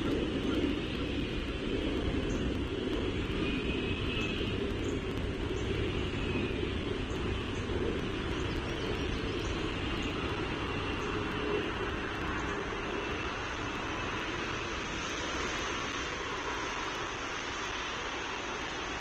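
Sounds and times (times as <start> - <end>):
low rumble of machinery or traffic: 0.0 - 19.0.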